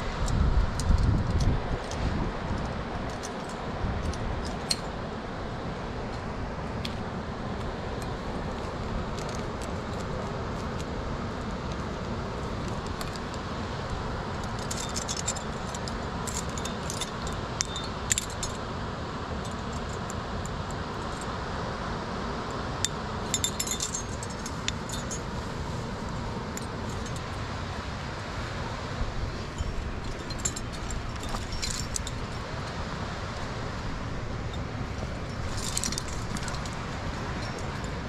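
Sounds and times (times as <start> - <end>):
metal climbing gear clinking: 0.0 - 5.0, 8.0 - 18.8, 19.4 - 21.4, 22.8 - 28.3, 29.2 - 33.5, 34.4 - 38.0
low rush of noise: 0.0 - 38.0.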